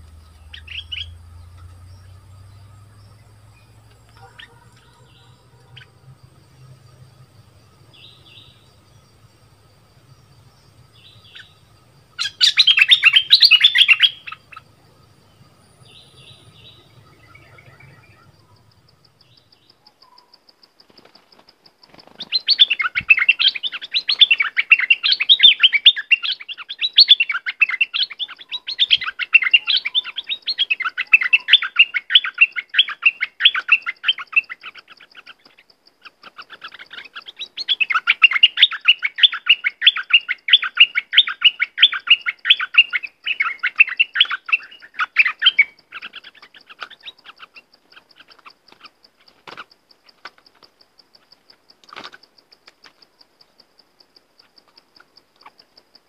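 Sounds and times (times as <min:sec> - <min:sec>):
bulbul chirping: 0:00.0 - 0:20.6, 0:22.0 - 0:51.8.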